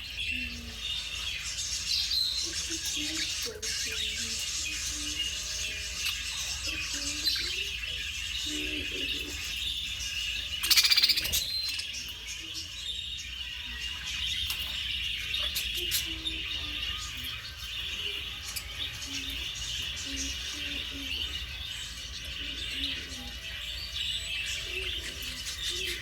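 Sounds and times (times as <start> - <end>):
budgerigars chattering and warbling: 0.0 - 26.0.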